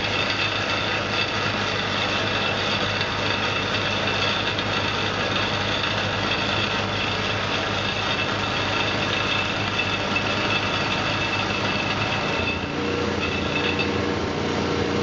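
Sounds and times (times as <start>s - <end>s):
snow blower running: 0.0s - 15.0s.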